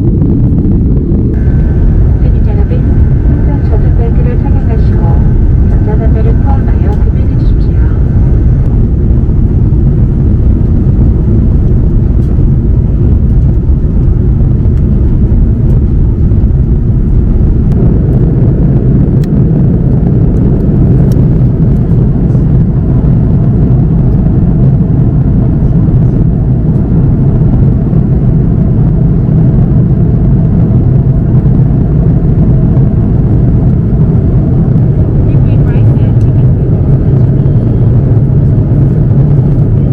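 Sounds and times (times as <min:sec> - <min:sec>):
airliner cabin roar: 0:00.0 - 0:39.9.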